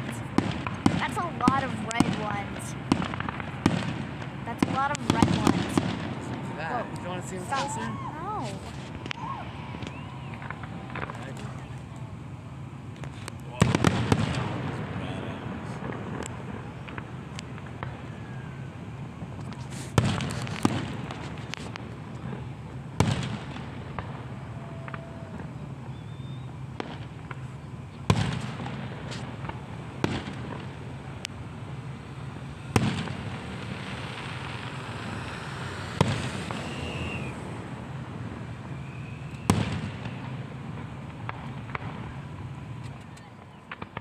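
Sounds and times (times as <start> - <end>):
fireworks loud bangs: 0.0 - 44.0
fireworks popping and crackling: 0.0 - 44.0.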